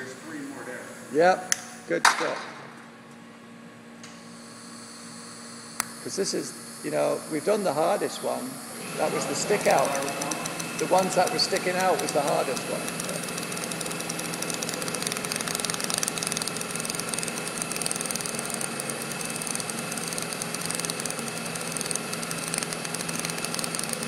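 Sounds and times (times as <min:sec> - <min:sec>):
welding arc buzzing hiss: 0:00.0 - 0:02.4, 0:04.0 - 0:24.0
wire feed humming: 0:04.0 - 0:24.0.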